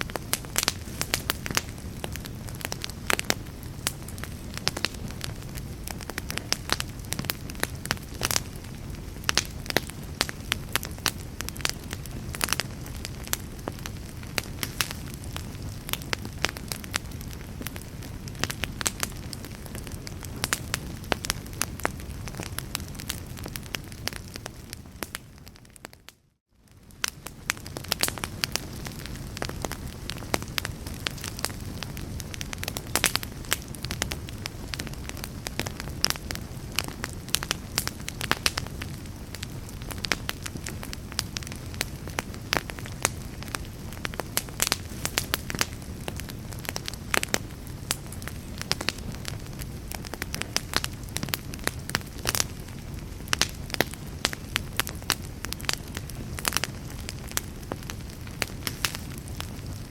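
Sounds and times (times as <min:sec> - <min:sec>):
logs crackling and popping: 0:00.0 - 0:59.9
low rumble of flames: 0:00.0 - 0:59.9.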